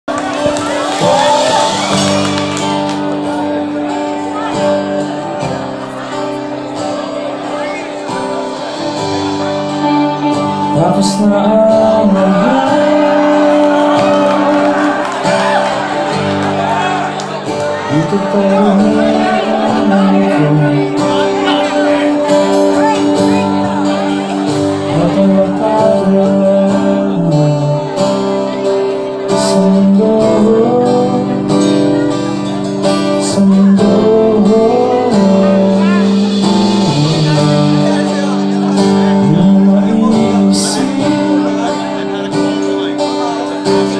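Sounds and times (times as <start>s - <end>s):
acoustic-electric guitar: 0.0s - 43.9s
drums: 0.0s - 43.9s
electric guitars: 0.0s - 43.9s
live pop-rock band playing: 0.1s - 43.9s
person singing: 0.3s - 43.9s.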